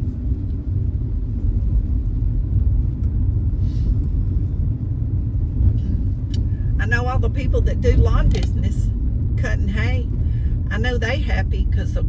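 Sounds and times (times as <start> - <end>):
car interior driving rumble: 0.0 - 12.0.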